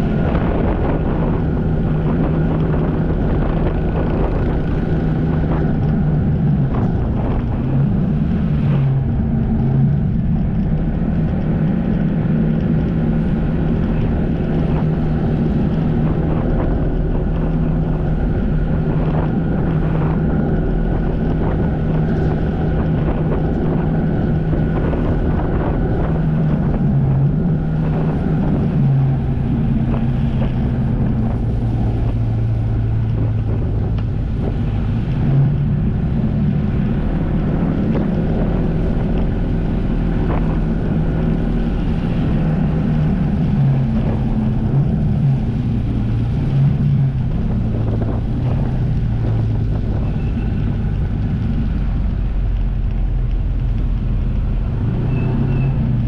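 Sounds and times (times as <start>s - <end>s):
jet ski engine running: 0.0s - 56.0s
wind buffeting microphone: 0.0s - 56.0s.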